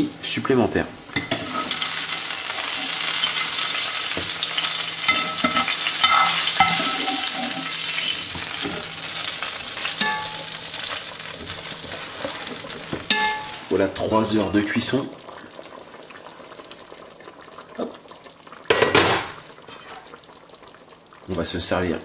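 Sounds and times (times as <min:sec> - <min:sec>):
butter sizzling in frying pan: 0:00.0 - 0:22.0.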